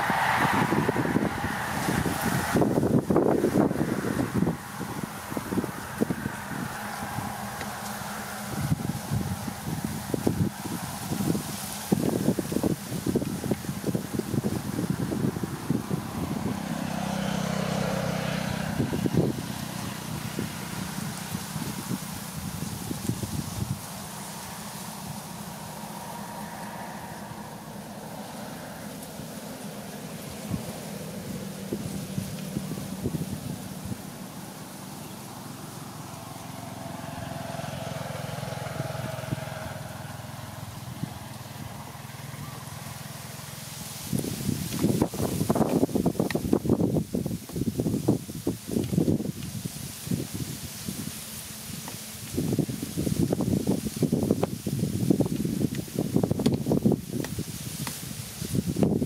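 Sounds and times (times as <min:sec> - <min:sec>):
wind rumbling on microphone: 0:00.0 - 0:59.0
motor engine running: 0:01.8 - 0:59.0.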